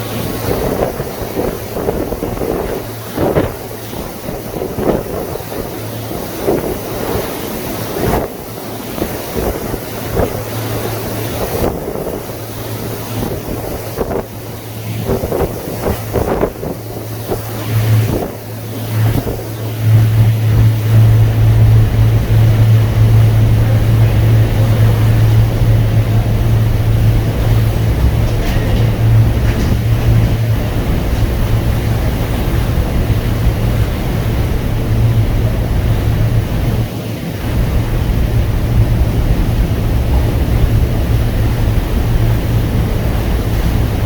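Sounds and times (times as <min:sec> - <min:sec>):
boat engine hum: 0:00.0 - 0:44.0
wind on microphone: 0:00.0 - 0:44.0.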